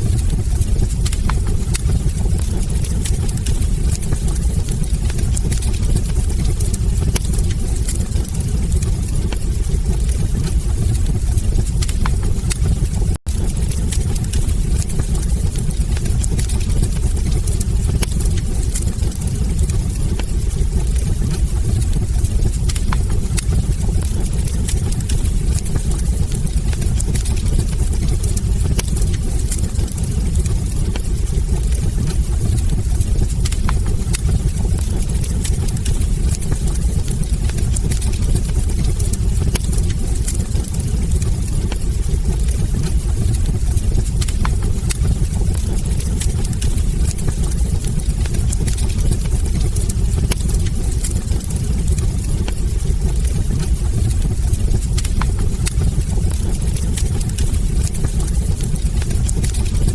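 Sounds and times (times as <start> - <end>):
fire flames rumbling: 0.0 - 59.9
logs crackling and popping: 0.0 - 59.9.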